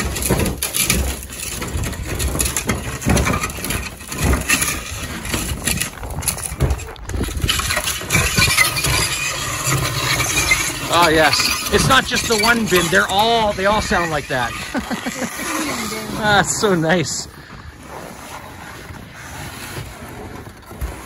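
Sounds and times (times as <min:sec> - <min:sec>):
cart wheels rumbling on concrete: 0:00.0 - 0:21.0
high scraping: 0:00.0 - 0:21.0.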